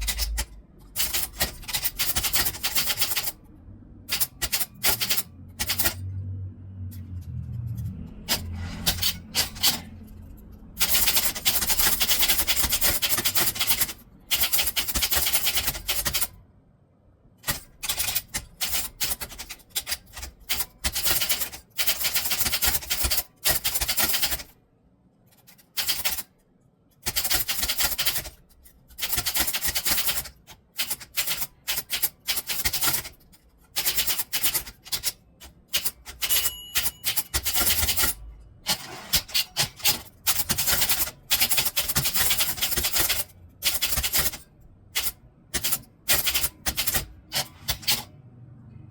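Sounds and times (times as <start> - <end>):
typewriter keys typing: 0.0 - 3.4, 4.0 - 6.2, 6.8 - 16.4, 17.4 - 24.5, 25.3 - 26.4, 27.0 - 48.2.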